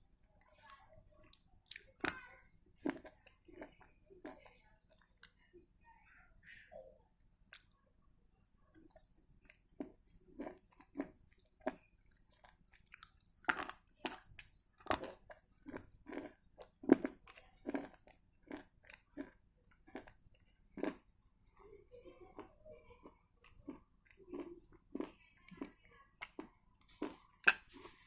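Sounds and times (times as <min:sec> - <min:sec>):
crunching and chewing: 0:00.4 - 0:05.4, 0:07.2 - 0:07.8, 0:08.4 - 0:28.0.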